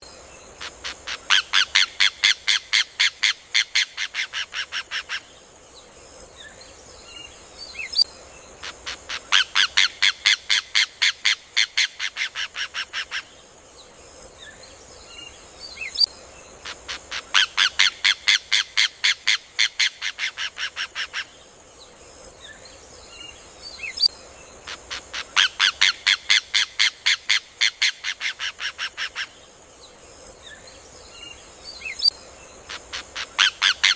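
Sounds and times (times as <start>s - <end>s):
faint bird calls: 0.0s - 13.4s, 14.2s - 33.9s
steady high hiss: 0.0s - 33.9s.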